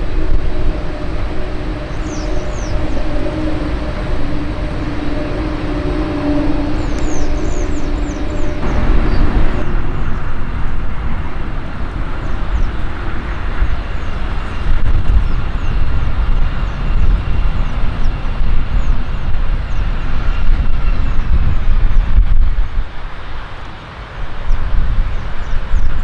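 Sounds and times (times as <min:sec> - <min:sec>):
faint steady whine: 0:00.0 - 0:21.2
jet engines rumbling: 0:00.0 - 0:26.0.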